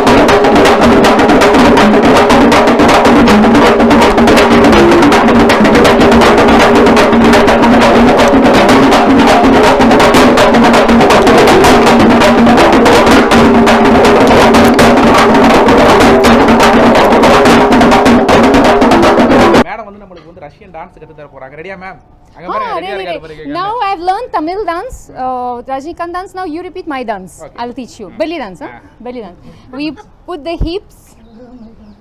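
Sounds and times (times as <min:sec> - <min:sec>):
fast frame drumming: 0:00.0 - 0:19.7, 0:22.5 - 0:31.0.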